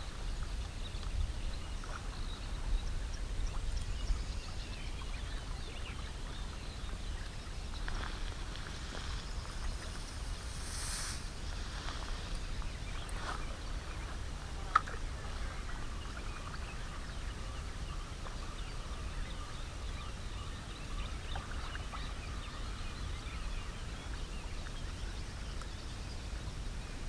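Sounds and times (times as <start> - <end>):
wind rumble on microphone: 0.0 - 27.0
faint bird chirps: 0.2 - 27.0.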